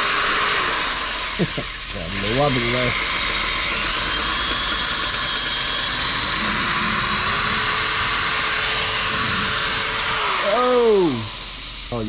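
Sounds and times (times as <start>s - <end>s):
drill grinding with harsh hiss: 0.0s - 12.0s
drill motor whine: 0.0s - 12.0s.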